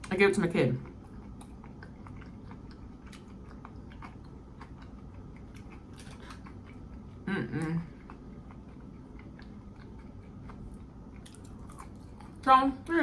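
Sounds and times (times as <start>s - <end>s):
crunchy chewing of fried food: 0.0s - 12.5s.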